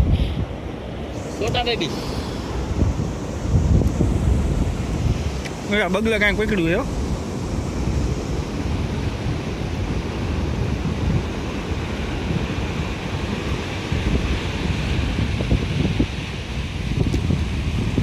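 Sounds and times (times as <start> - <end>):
sea waves on shore: 0.0 - 18.0
wind buffeting microphone: 0.0 - 18.0.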